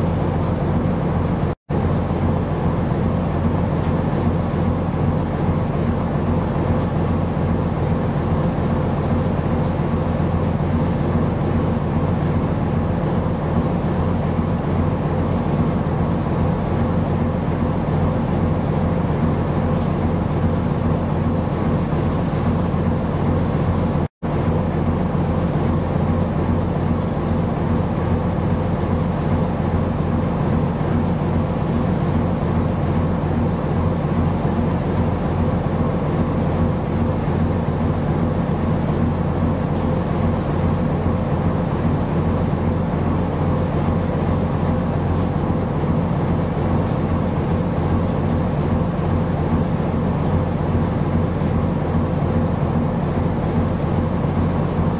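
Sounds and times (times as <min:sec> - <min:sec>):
ship engine low drone: 0:00.0 - 0:54.9.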